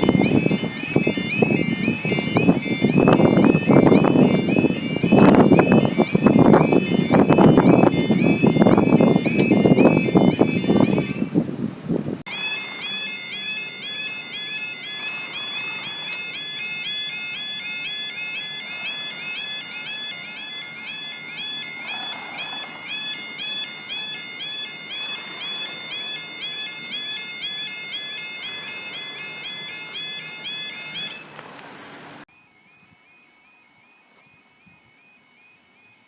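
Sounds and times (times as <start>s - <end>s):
warbling two-tone crossing alarm: 0.0s - 11.5s, 12.3s - 31.4s, 32.2s - 36.0s.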